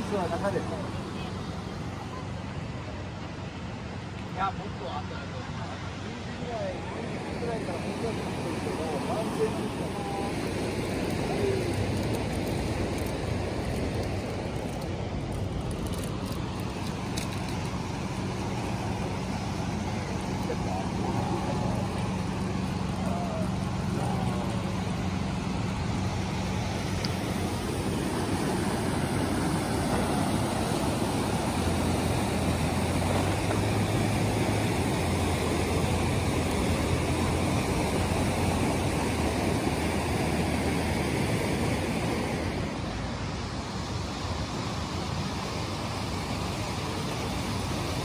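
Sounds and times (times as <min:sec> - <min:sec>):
river rushing over rapids: 0:00.0 - 0:48.0.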